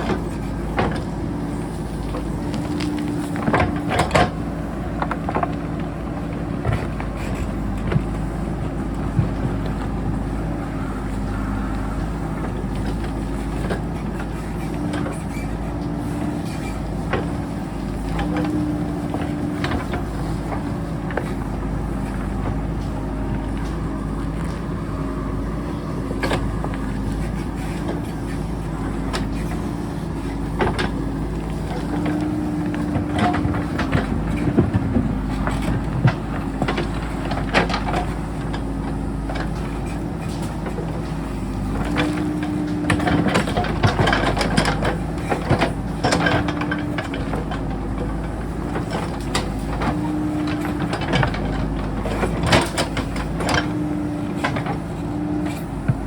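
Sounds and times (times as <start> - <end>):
backhoe engine under load: 0.0 - 56.0.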